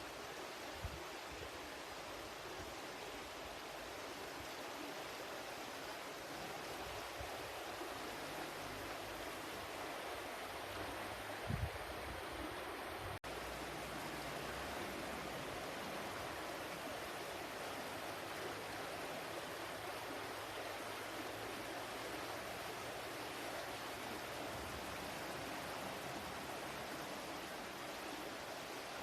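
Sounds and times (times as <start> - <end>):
water flowing: 0.0 - 29.0.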